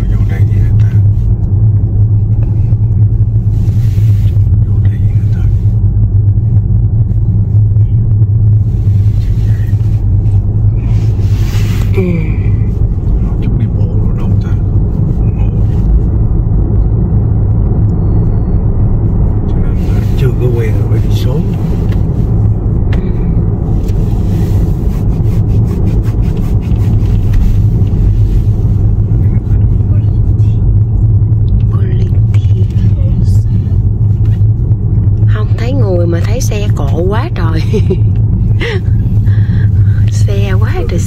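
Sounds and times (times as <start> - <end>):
road and engine noise in car: 0.0 - 41.0.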